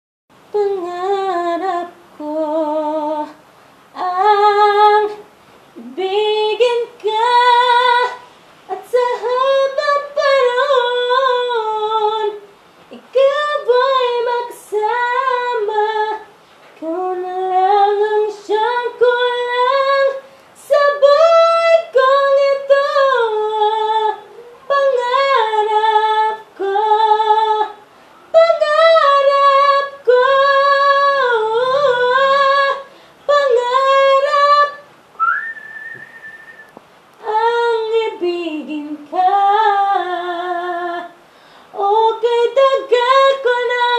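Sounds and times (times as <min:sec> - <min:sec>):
woman singing unaccompanied: 0:00.4 - 0:36.6, 0:37.2 - 0:43.9.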